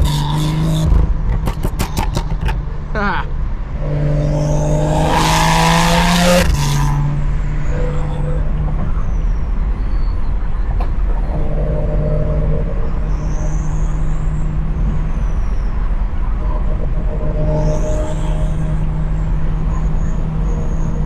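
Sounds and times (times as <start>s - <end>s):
car exhaust drone: 0.0s - 21.0s.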